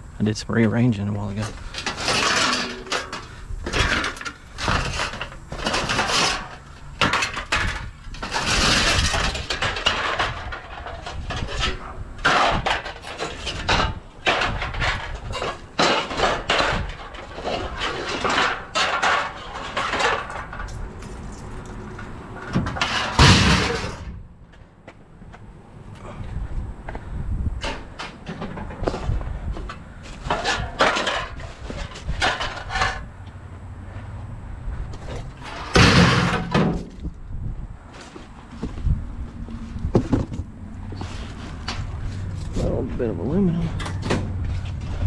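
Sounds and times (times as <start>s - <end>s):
scrap metal clanking: 1.4s - 24.6s, 27.6s - 33.2s, 34.9s - 37.2s, 39.6s - 45.0s.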